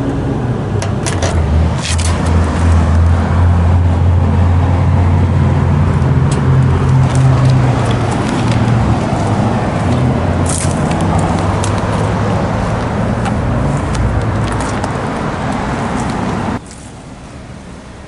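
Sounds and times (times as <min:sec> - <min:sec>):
fan rush: 0:00.0 - 0:18.0.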